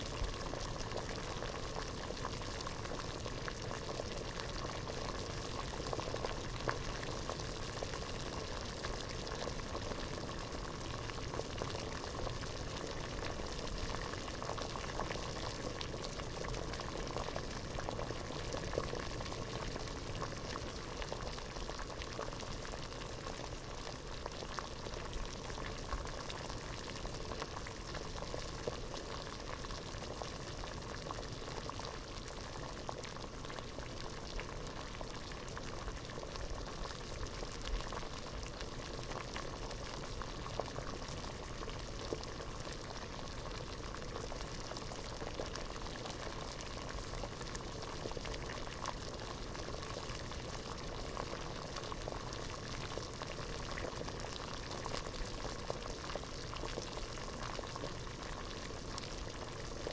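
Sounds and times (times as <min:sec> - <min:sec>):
water boiling in a pot: 0:00.0 - 0:59.9.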